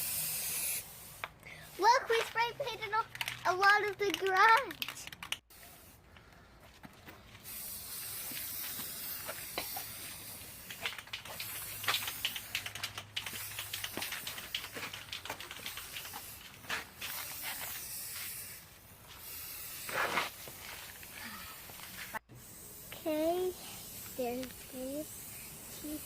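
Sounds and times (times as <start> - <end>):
spray paint can hissing: 0.0 - 6.0, 7.4 - 26.0.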